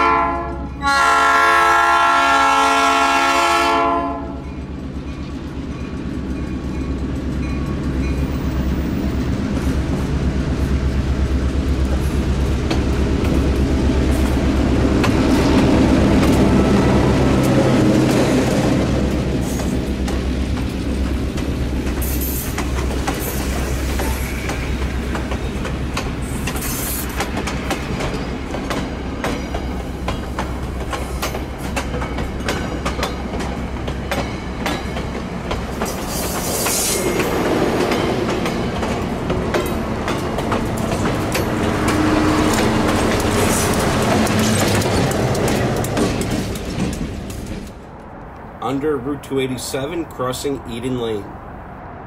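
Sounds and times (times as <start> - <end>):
diesel locomotive engine rumble: 0.0 - 52.0
wheels clicking over rail joints: 4.4 - 48.4.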